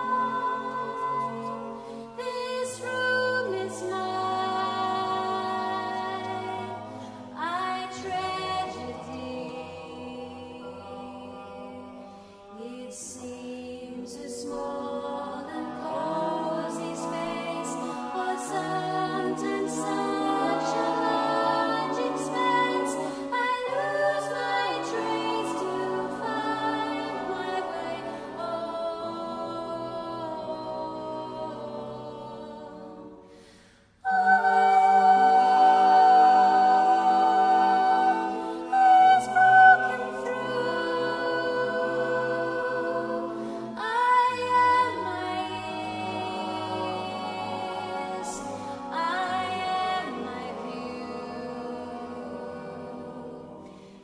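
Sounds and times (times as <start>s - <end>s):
a cappella choir singing chords: 0.0s - 54.0s.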